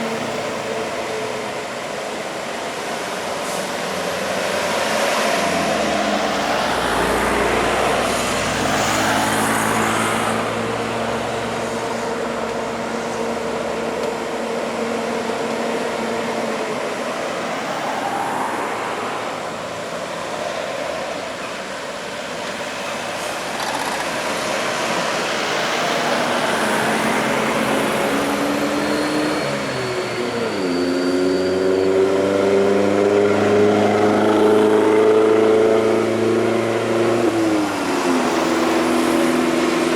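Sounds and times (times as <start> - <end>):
heavy trucks driving past: 0.0 - 39.9
tyre and traffic noise: 0.0 - 39.9.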